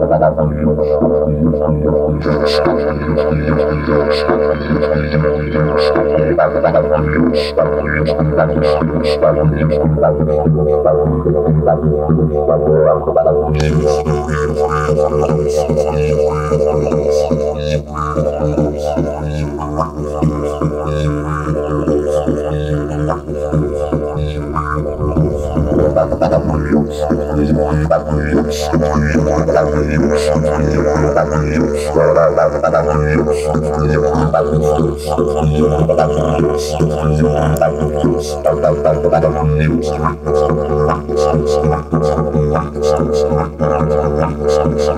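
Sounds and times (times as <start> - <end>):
didgeridoo droning: 0.0 - 44.9.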